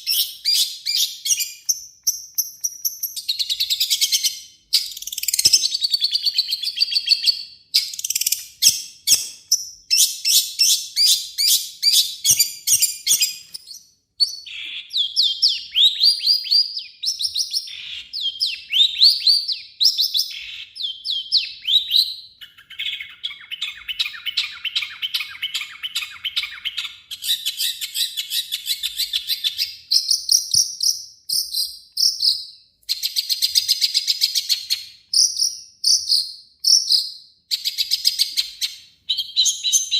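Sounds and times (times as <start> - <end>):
bird singing rapid varied song: 0.0 - 39.9.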